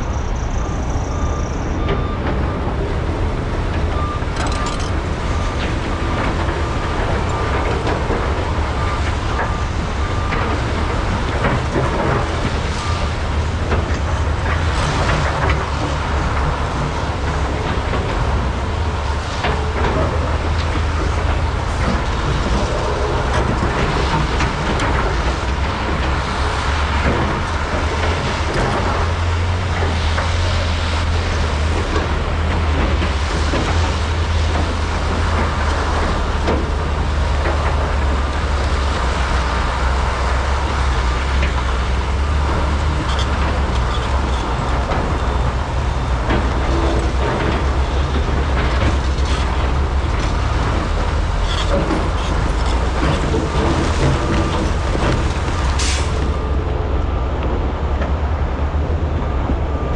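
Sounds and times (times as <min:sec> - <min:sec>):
knocks and clanks: 0:00.0 - 0:58.2
excavator diesel engines droning: 0:00.0 - 0:59.9.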